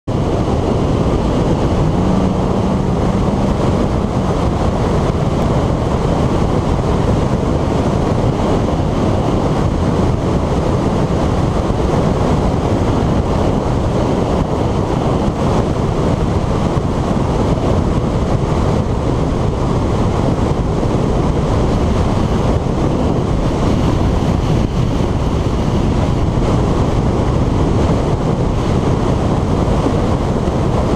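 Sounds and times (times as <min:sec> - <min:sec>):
wind and road noise: 0:00.0 - 0:30.9
steady low hum: 0:00.1 - 0:30.9.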